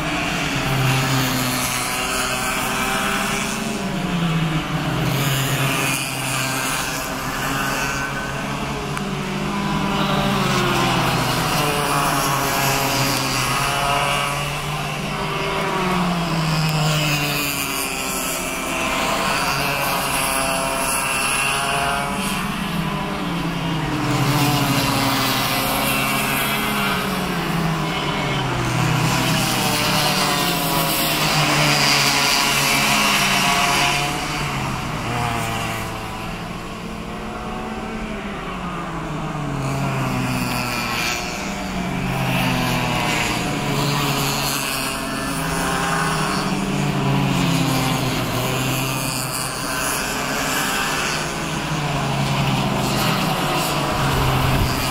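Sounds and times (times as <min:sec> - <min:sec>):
kart engines racing: 0:00.0 - 0:54.9.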